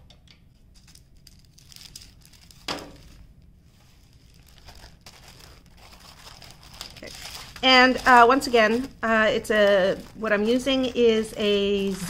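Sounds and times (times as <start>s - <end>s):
thin plastic crinkling: 0.5s - 12.0s.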